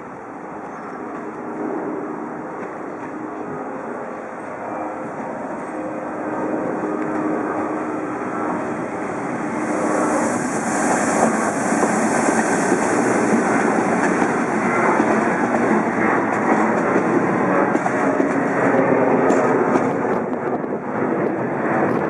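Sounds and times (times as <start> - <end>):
steel wheels rolling on rails: 2.4 - 22.0.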